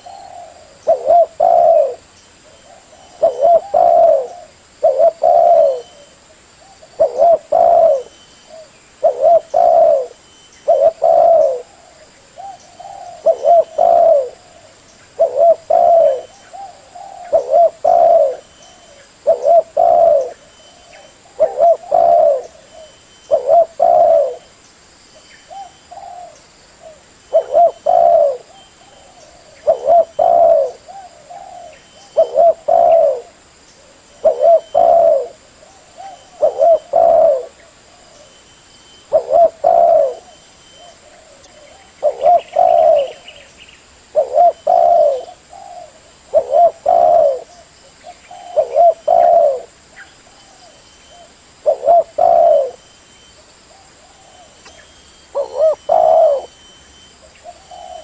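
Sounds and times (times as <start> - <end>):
dove cooing: 0.0 - 24.5, 25.5 - 38.4, 39.0 - 43.5, 44.1 - 52.8, 53.7 - 58.0.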